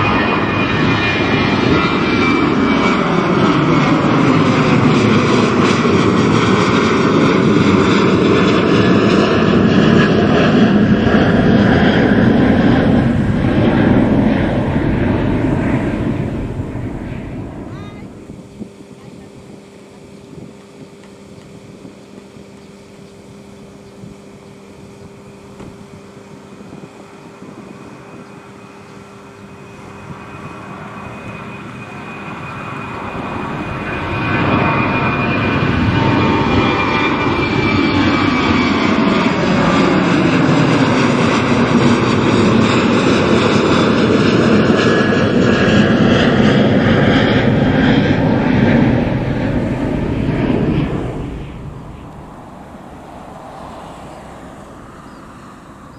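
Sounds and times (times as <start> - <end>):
jet engine roar: 0.0 - 55.9
jet engine whine falling in pitch: 0.0 - 55.9.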